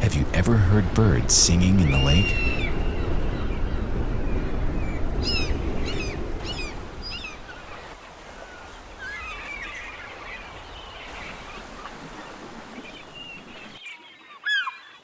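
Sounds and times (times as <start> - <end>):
birds calling: 1.4 - 15.0.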